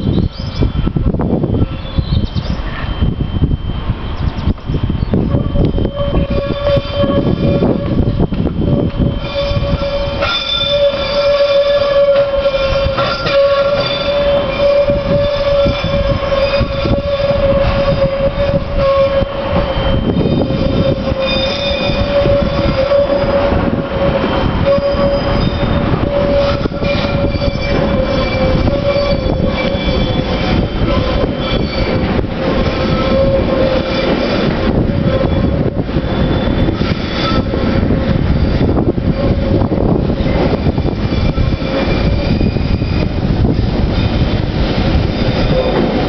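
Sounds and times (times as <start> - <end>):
metro train whine: 0.0 - 46.0
train low rumble: 0.0 - 46.0
wheels squealing: 0.0 - 46.0.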